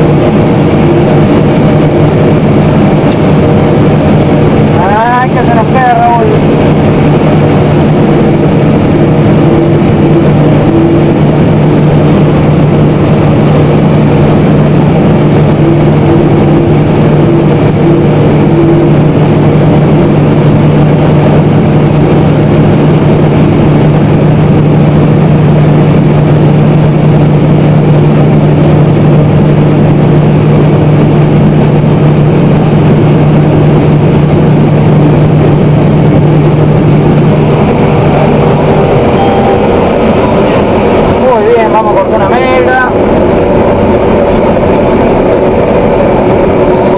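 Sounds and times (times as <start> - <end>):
combine harvester drone: 0.0 - 46.9.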